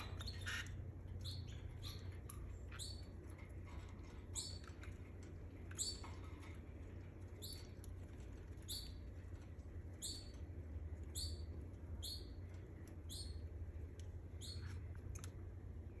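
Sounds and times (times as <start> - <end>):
canary chirping: 0.0 - 16.0
steady low hum: 0.0 - 16.0.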